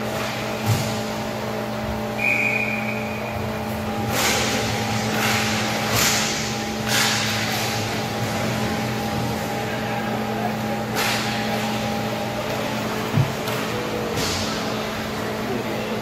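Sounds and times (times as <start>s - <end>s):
steady background hum: 0.0s - 16.0s
skates and sticks scraping rink floor: 2.9s - 16.0s.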